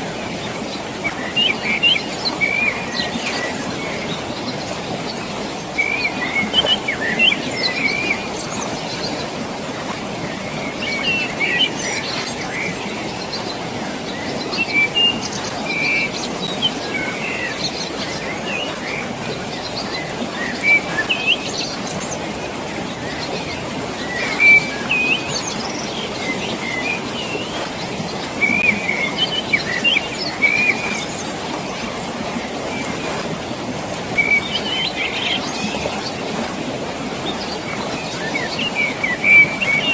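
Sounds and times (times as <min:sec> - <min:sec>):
flowing water rushing: 0:00.0 - 0:39.9
birds chirping and trilling: 0:00.3 - 0:09.4, 0:10.3 - 0:36.4, 0:37.1 - 0:39.9.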